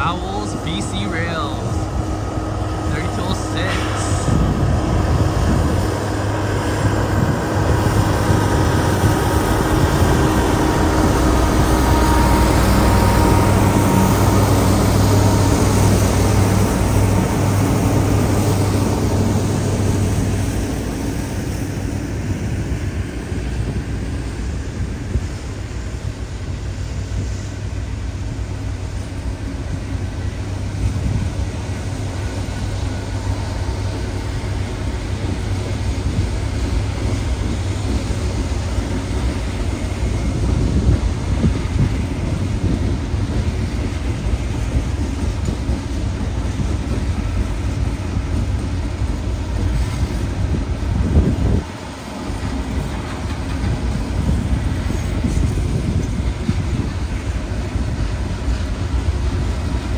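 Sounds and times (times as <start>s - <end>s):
locomotive engines humming: 0.0s - 59.9s
wheels rumbling on rails: 0.0s - 59.9s.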